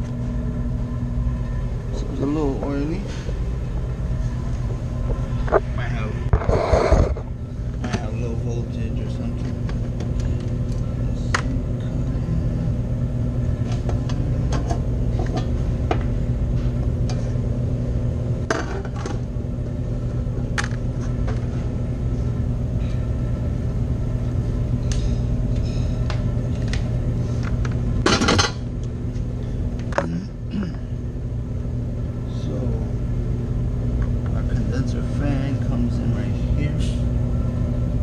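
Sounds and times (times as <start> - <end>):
condensing unit humming: 0.0 - 38.0.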